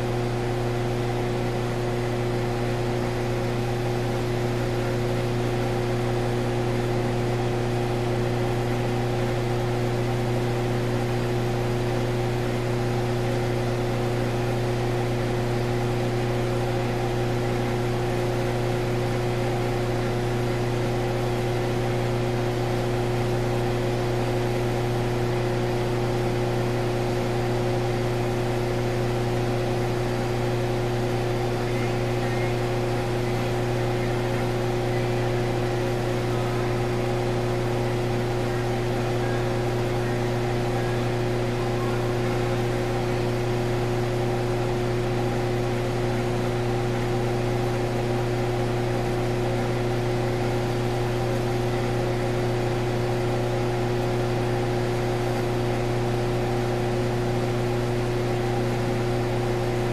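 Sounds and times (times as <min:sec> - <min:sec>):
turbine humming: 0:00.0 - 0:59.9.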